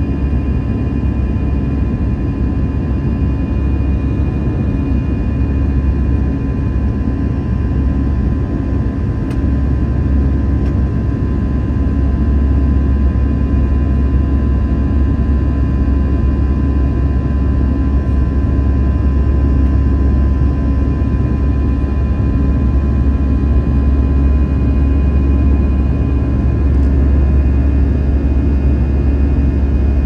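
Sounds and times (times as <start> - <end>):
jet engine rumble in cabin: 0.0 - 30.0.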